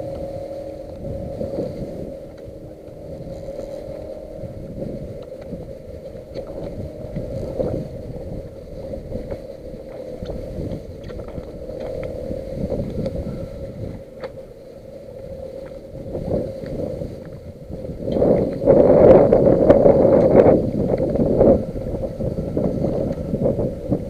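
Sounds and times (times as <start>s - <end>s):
steady low rumble: 0.0s - 24.0s
water lapping against hull: 0.0s - 24.0s
wind buffeting microphone: 0.0s - 24.0s.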